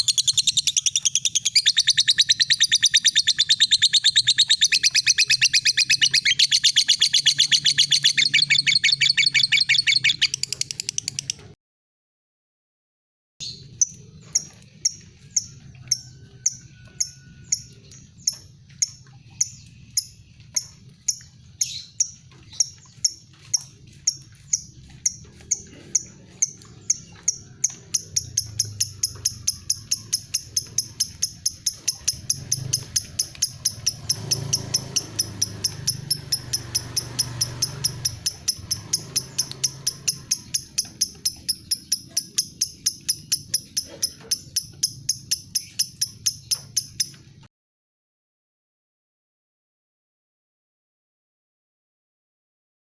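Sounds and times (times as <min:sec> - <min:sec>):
bird ticking call: 0:00.0 - 0:11.6, 0:13.4 - 0:47.3.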